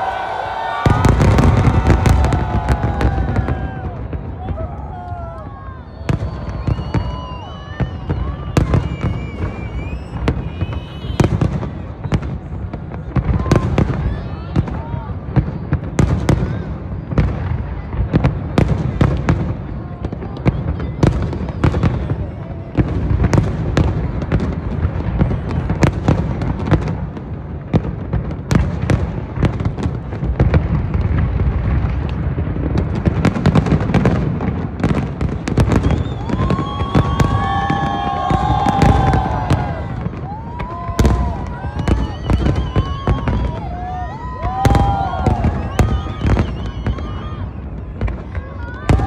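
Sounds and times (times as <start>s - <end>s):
fireworks bangs and bursts: 0.0s - 49.0s.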